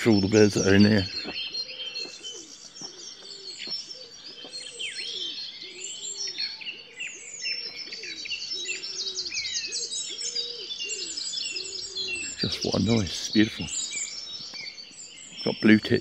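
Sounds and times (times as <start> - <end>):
low bird coo: 0.0 - 14.7
songbirds singing: 0.0 - 16.0.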